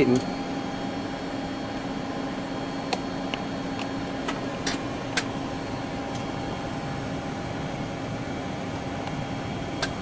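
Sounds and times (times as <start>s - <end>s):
cockpit hum with fan noise: 0.0s - 10.0s.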